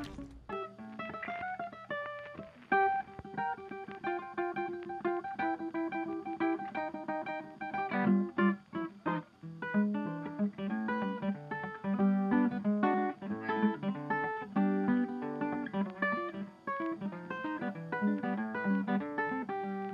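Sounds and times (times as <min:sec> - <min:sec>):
acoustic guitar picking melody: 0:00.0 - 0:19.9.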